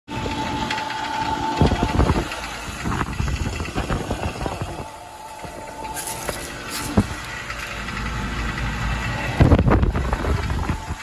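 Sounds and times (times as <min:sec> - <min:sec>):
heat pump fan and compressor hum: 0:00.1 - 0:11.0
steady tone: 0:00.1 - 0:11.0.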